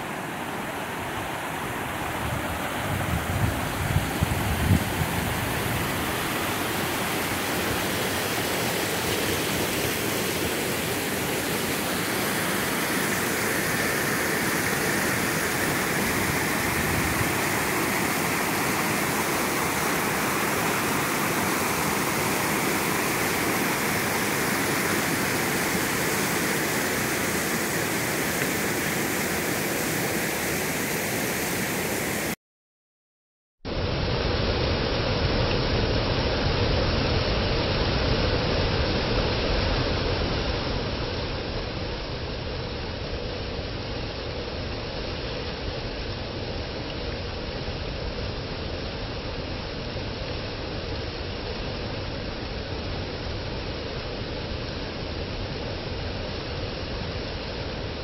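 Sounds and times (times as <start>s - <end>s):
water rushing over waterfall: 0.0s - 32.4s, 33.7s - 58.0s.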